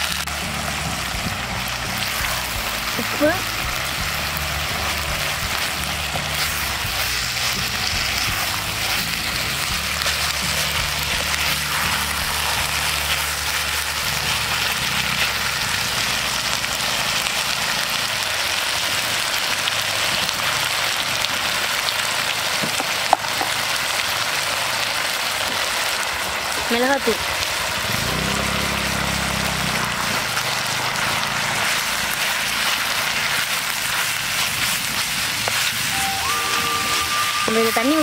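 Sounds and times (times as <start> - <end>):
potato strips sizzling in oil: 0.0 - 38.0.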